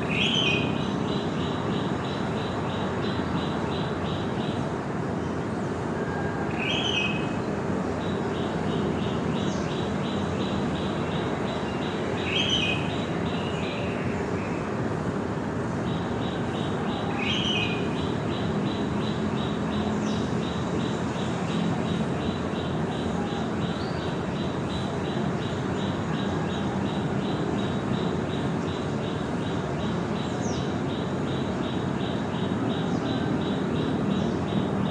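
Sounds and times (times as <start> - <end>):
loud bird calls: 0.0 - 4.7, 6.0 - 14.7, 15.8 - 34.9
birds chirping: 0.0 - 34.9.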